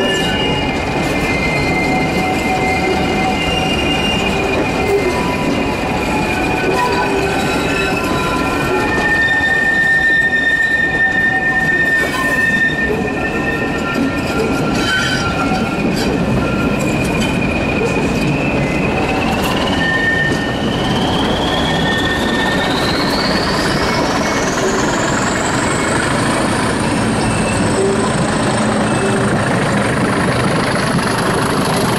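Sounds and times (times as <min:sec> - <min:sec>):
train running noise: 0:00.0 - 0:31.9
train wheels squealing on rails: 0:00.0 - 0:31.9.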